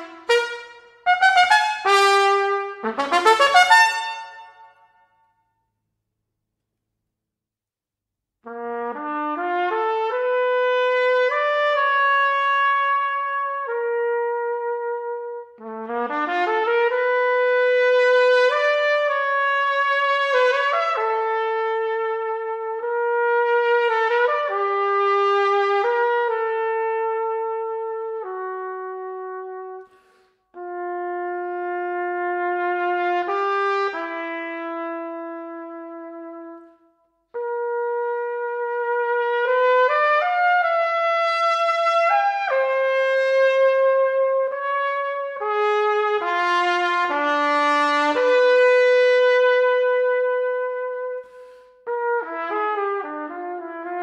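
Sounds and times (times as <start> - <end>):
solo trumpet playing: 0.0 - 5.2, 8.4 - 54.0.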